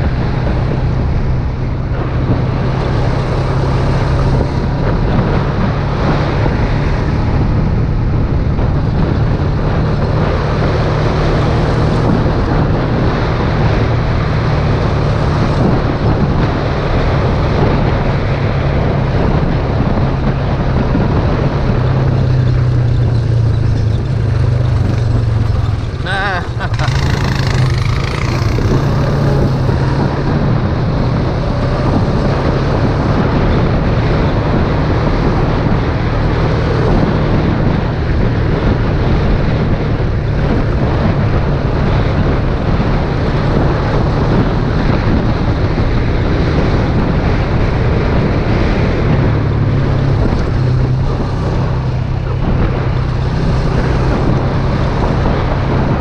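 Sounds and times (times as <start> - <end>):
atv engine running: 0.0 - 56.0
wind on microphone: 0.0 - 56.0.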